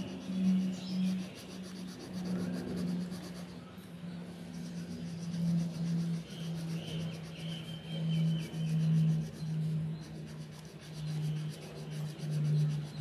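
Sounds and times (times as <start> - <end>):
pencil shading on paper: 0.0 - 3.6, 4.5 - 13.0.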